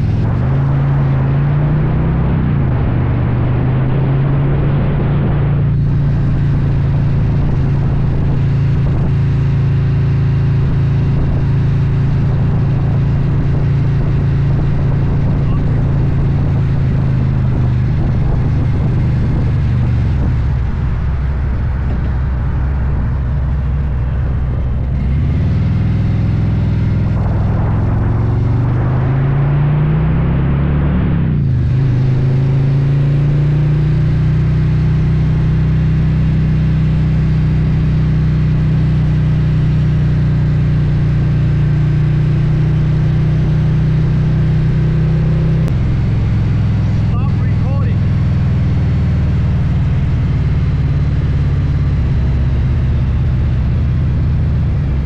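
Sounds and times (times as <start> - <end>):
motorcycle engine running: 0.0 - 1.7, 5.6 - 29.4, 31.2 - 55.0.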